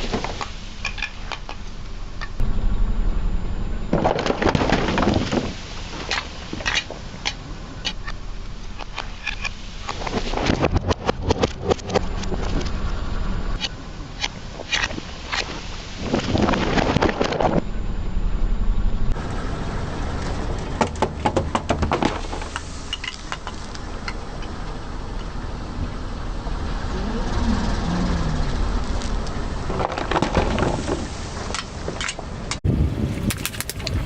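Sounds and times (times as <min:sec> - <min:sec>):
car engine running low: 0:00.0 - 0:34.0.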